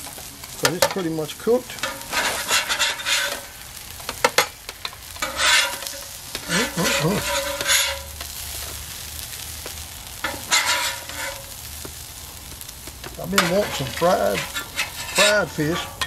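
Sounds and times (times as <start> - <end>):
metal spatula scraping griddle: 0.6 - 9.3, 10.0 - 12.1, 13.1 - 16.0.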